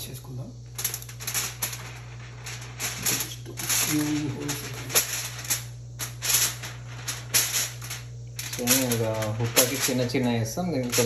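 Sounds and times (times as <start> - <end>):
steady low hum: 0.0 - 11.0
aluminium foil crinkling: 0.7 - 11.0.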